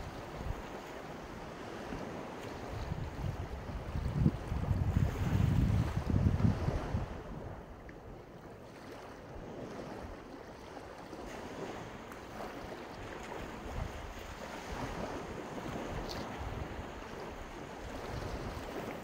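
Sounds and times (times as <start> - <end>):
surf washing onto beach: 0.0 - 7.8, 9.0 - 19.0
wind gusting on microphone: 0.0 - 7.8, 11.2 - 19.0.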